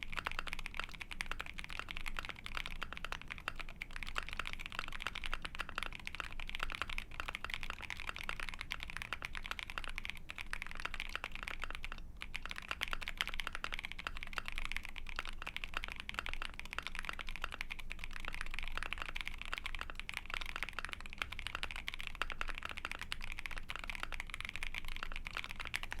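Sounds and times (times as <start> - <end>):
fast mechanical keyboard typing: 0.0 - 26.0.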